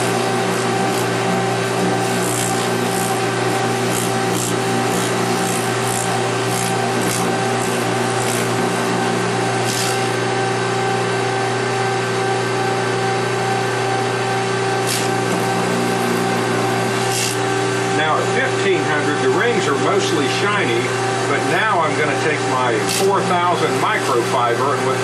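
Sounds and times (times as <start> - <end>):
polishing motor hum: 0.0 - 25.0.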